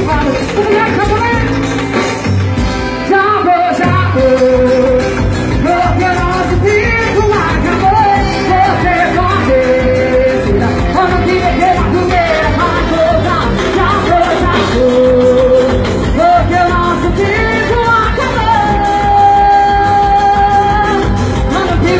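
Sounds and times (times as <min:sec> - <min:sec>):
live band music: 0:00.0 - 0:21.9.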